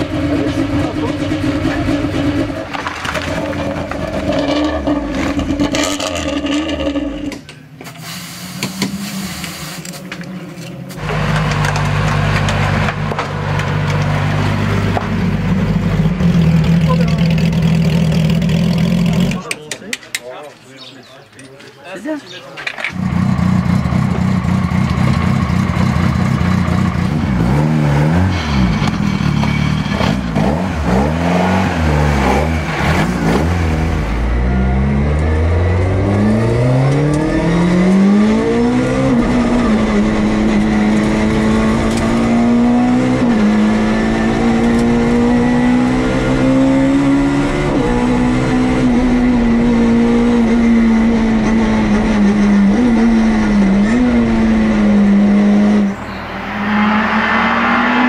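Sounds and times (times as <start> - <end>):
rally car engine revving: 0.0 - 7.4, 10.3 - 19.5, 22.9 - 58.0.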